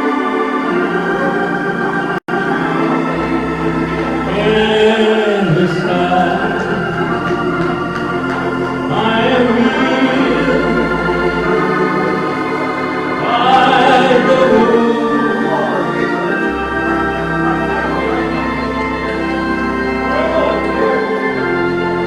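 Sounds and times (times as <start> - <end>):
church organ chords: 0.0 - 22.0
voices singing: 0.0 - 22.0.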